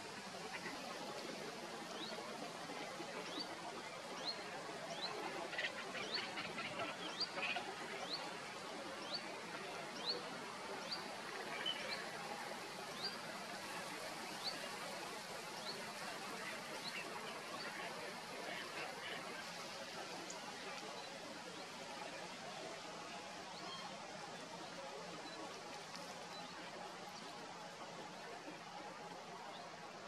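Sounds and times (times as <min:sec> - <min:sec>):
wind and water hiss: 0:00.0 - 0:30.0.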